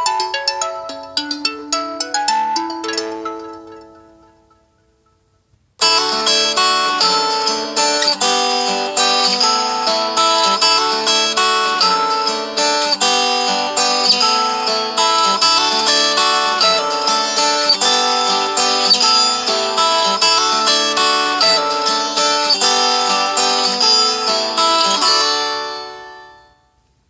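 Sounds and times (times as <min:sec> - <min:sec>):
plucked-string ringtone melody: 0:00.0 - 0:26.7.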